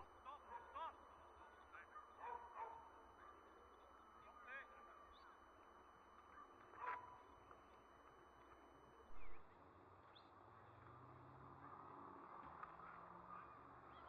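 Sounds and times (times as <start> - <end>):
faint open-air background: 0.0 - 14.0.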